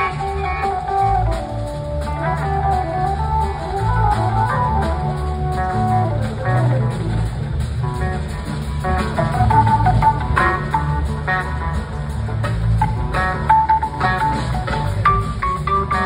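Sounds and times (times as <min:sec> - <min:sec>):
blues-rock band playing: 0:00.0 - 0:16.0
electric guitar lead: 0:00.0 - 0:16.0.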